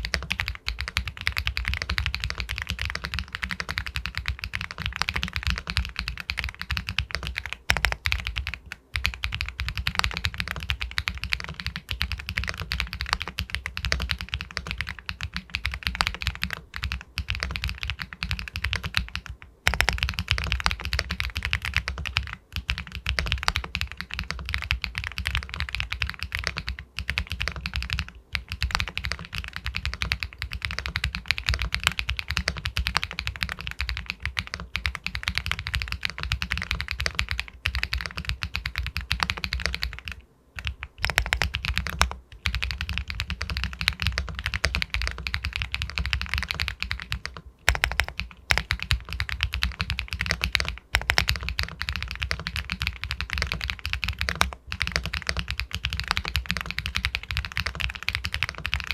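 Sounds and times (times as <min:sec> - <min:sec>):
mechanical keyboard typing: 0:00.0 - 0:58.9.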